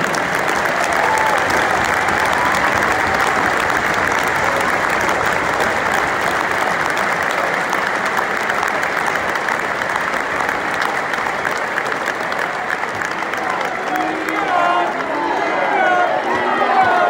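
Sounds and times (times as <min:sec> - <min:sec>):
players clapping: 0:00.0 - 0:17.0
stadium crowd applause: 0:00.0 - 0:17.0.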